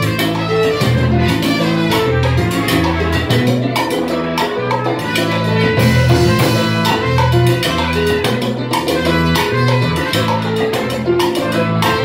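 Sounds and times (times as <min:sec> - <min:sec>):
bass line: 0:00.0 - 0:12.0
saxophone: 0:00.0 - 0:12.0
trumpet: 0:00.0 - 0:12.0.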